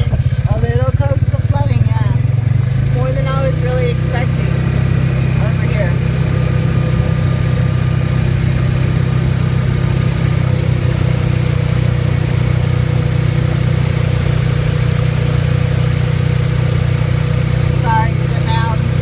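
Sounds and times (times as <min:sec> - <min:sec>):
car engine and road hum: 0:00.0 - 0:19.0.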